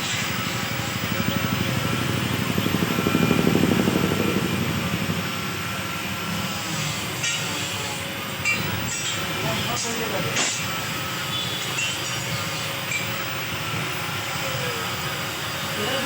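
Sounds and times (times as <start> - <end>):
motor pulsing rumble: 0.0 - 11.7, 12.3 - 16.0.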